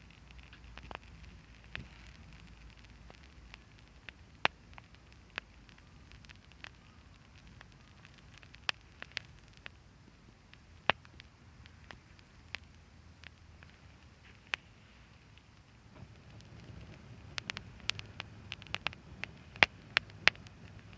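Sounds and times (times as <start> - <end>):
low steady hiss: 0.0 - 20.9
sharp pops: 0.0 - 20.9
wood fire crackling: 0.0 - 20.9.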